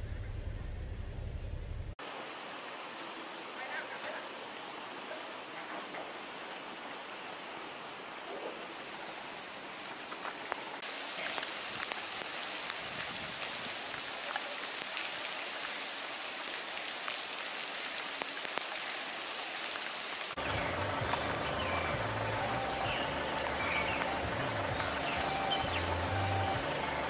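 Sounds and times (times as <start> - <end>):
rain falling on water: 2.0 - 27.0.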